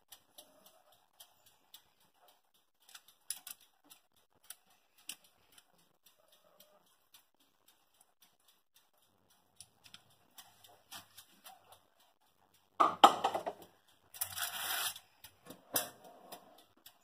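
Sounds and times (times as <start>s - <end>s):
faint light clicks and ticks: 0.0s - 12.8s, 13.5s - 17.0s.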